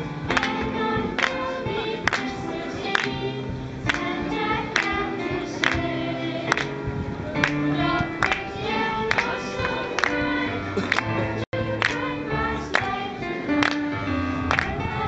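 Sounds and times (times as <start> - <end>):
children's choir singing: 0.0 - 15.0
keyboard accompaniment: 0.0 - 15.0.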